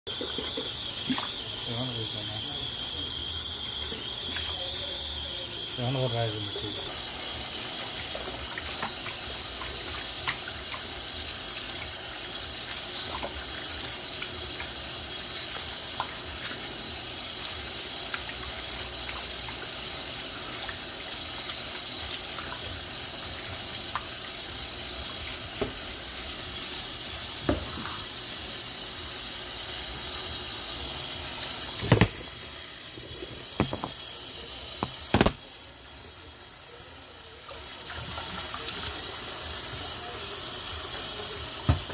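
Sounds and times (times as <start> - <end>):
faucet running into pan: 0.1 - 41.9.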